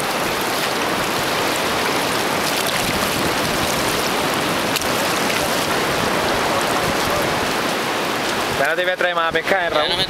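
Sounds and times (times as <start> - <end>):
surf washing over shallow water: 0.0 - 10.0.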